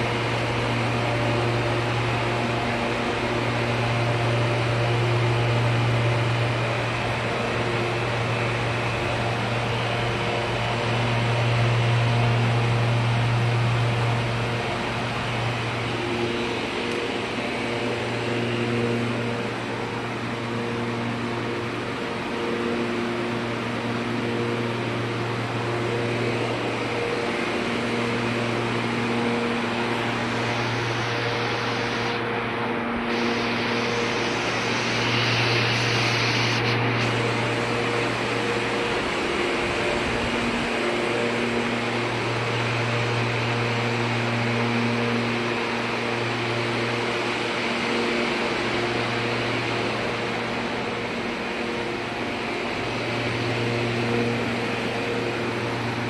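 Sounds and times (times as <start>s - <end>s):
compressor low hum: 0.0s - 56.0s
condenser fans rushing: 0.0s - 56.0s.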